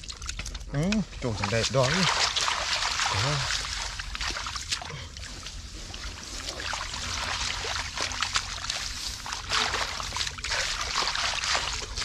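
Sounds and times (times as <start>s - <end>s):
hands splashing in muddy water: 1.2s - 12.0s.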